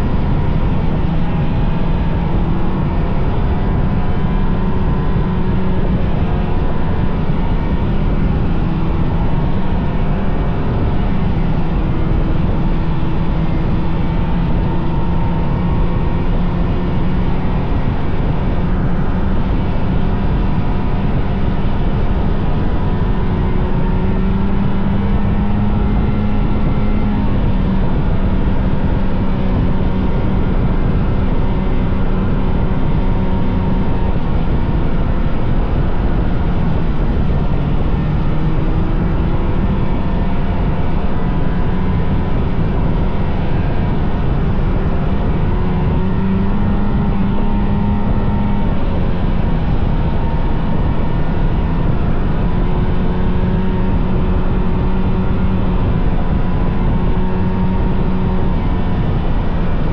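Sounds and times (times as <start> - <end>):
snowmobile engine droning: 0.0 - 59.9.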